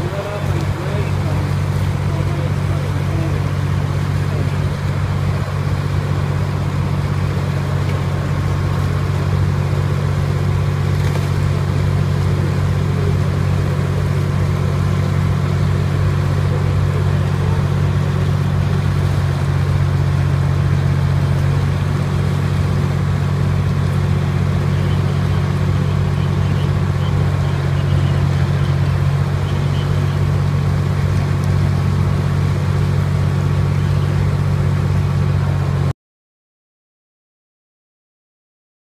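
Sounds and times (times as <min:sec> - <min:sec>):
truck engine droning: 0:00.0 - 0:35.9.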